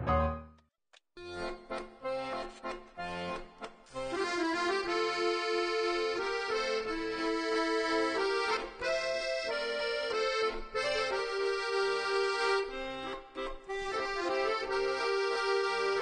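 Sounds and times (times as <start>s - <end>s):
accordion tune: 1.2s - 16.0s.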